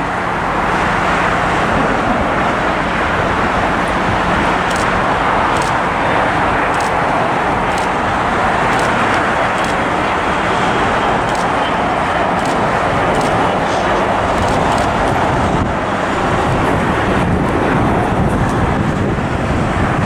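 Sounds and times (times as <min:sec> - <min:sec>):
road traffic roar: 0:00.0 - 0:20.0.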